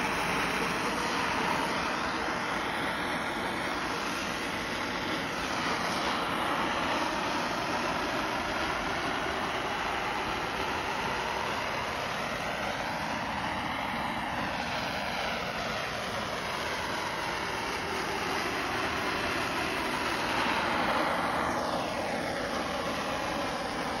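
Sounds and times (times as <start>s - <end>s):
blowtorch flame hissing: 0.0s - 24.0s.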